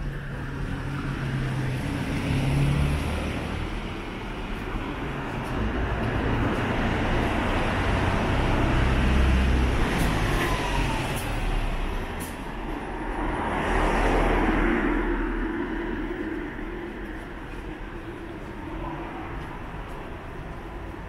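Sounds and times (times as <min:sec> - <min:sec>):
heavy vehicle engine rumble: 0:00.0 - 0:21.0
tyre and street noise: 0:00.0 - 0:21.0
vehicle passing: 0:00.3 - 0:20.9.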